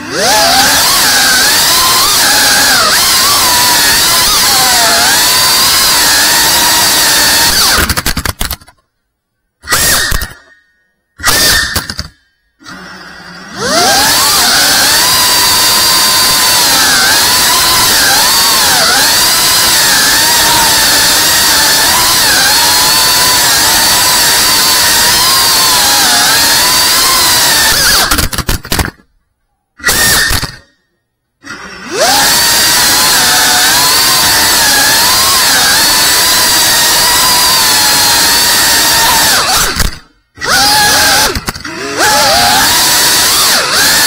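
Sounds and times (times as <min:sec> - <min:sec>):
drone motors whining: 0:00.0 - 0:08.7, 0:09.6 - 0:29.0, 0:29.8 - 0:44.0.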